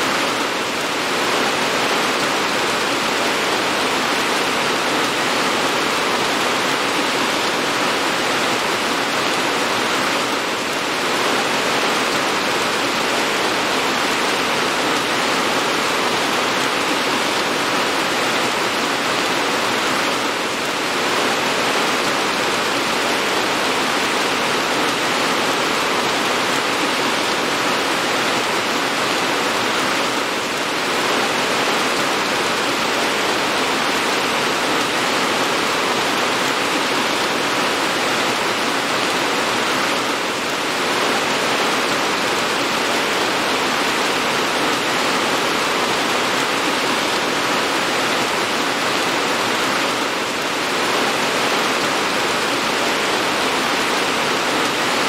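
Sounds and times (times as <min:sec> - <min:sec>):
heavy steady rain: 0:00.0 - 0:55.0.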